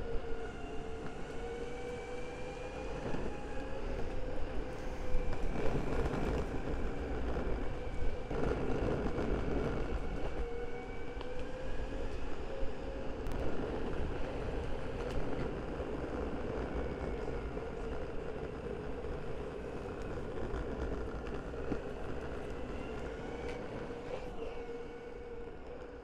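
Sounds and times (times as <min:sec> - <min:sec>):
rumble of wheels: 0:00.0 - 0:26.0
skateboard wheels whining: 0:00.1 - 0:26.0
wind on microphone: 0:00.2 - 0:25.8.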